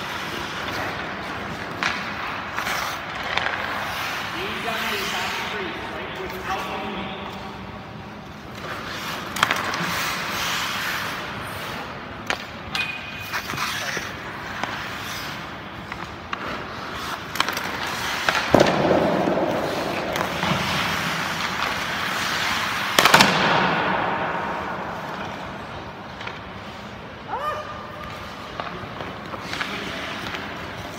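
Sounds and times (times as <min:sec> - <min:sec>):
pucks striking boards: 0:00.0 - 0:26.9, 0:28.0 - 0:30.9
hockey sticks cracking pucks: 0:00.0 - 0:30.9
ice skates scraping: 0:00.0 - 0:30.9.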